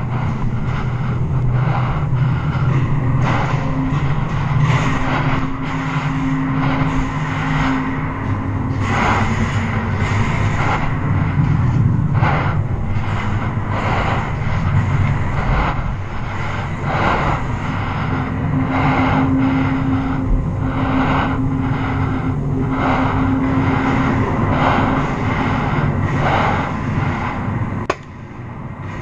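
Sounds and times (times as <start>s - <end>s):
loud mechanical rumble: 0.0s - 29.0s
low hum: 0.0s - 29.0s.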